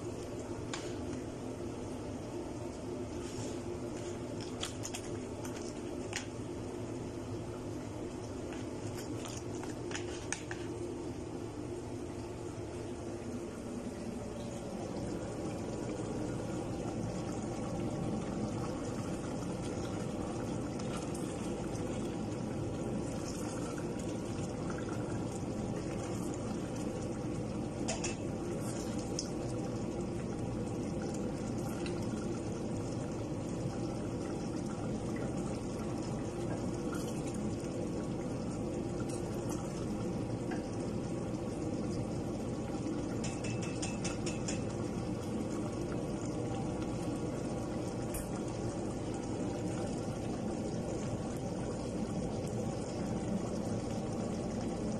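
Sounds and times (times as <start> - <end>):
stew bubbling: 0.0 - 54.9.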